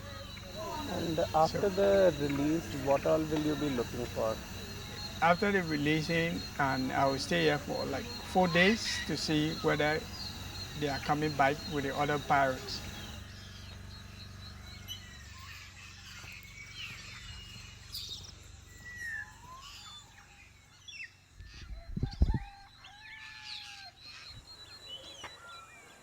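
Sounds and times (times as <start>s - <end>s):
birds calling: 0.0s - 26.0s
faint high insect tone: 0.0s - 26.0s.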